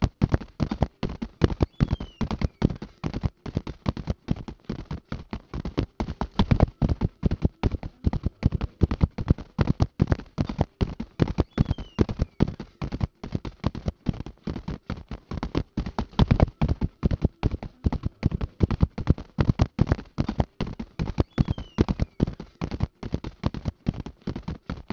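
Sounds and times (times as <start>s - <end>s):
horses galloping: 0.0s - 24.9s.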